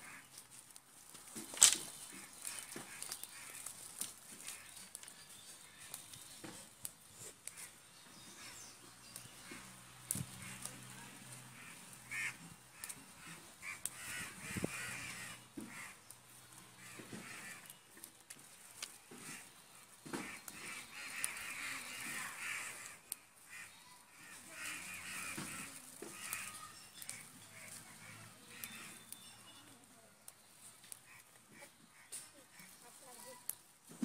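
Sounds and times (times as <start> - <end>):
birds calling: 0.0 - 34.0
leaves rustling and snapping: 0.0 - 34.0.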